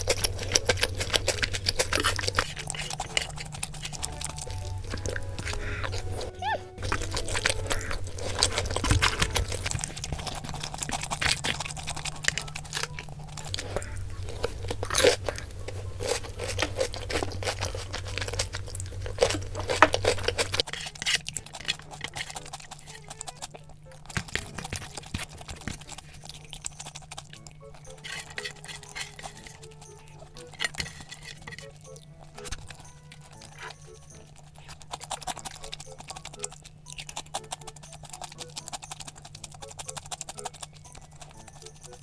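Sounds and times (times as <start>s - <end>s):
crunching and chewing food: 0.0s - 42.0s.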